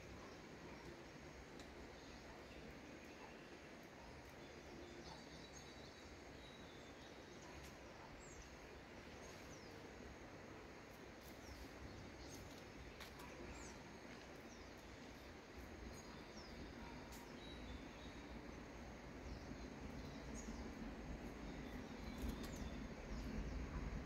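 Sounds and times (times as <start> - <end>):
faint bird chirps: 0.0 - 10.0, 11.2 - 23.9.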